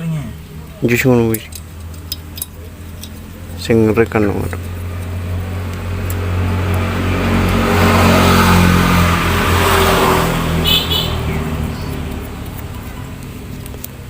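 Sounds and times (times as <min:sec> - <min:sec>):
vehicle engine passing by: 0:01.7 - 0:14.0.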